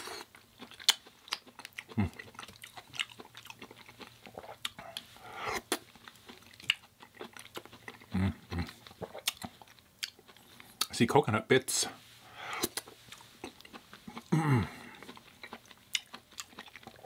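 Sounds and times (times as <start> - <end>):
person chewing food: 0.0 - 11.0, 12.0 - 17.0.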